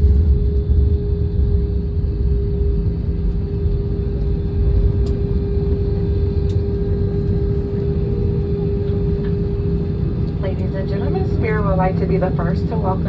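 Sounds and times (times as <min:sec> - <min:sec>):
airliner cabin rumble: 0:00.0 - 0:13.0
constant hum: 0:00.0 - 0:13.0.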